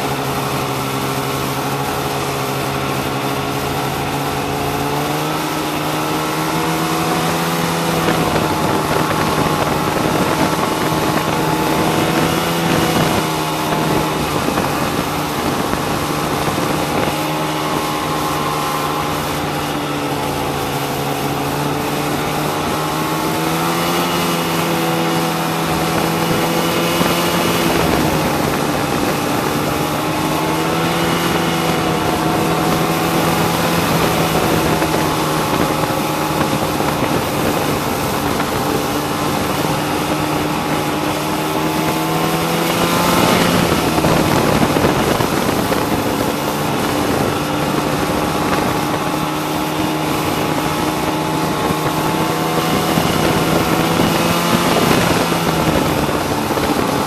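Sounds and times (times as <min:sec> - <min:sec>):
snowmobile engine: 0:00.0 - 0:57.0.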